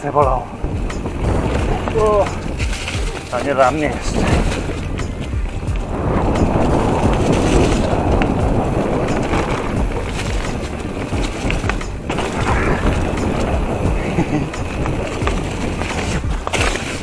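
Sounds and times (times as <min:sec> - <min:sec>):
bike rattling over bumps: 0:00.0 - 0:17.0
bike tyres rushing on dirt: 0:00.0 - 0:17.0.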